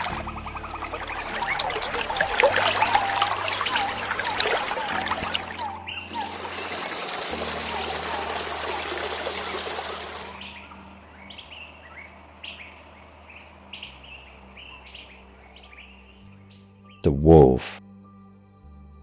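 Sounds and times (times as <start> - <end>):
stream trickling: 0.0 - 16.6
small birds chirping: 0.0 - 17.1
low background music tone: 0.0 - 19.0.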